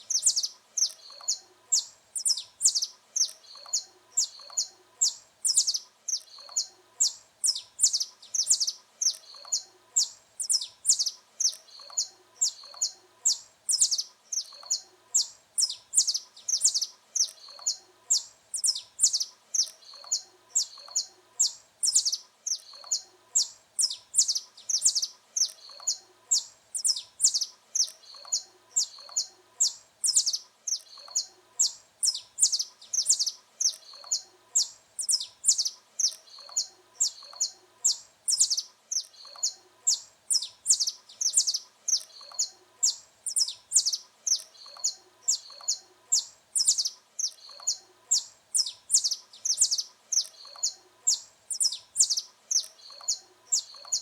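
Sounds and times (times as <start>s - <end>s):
finch chirping: 0.0s - 54.0s.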